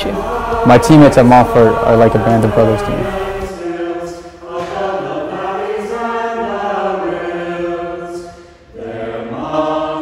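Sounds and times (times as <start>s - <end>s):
choir singing a slow chant: 0.0s - 10.0s.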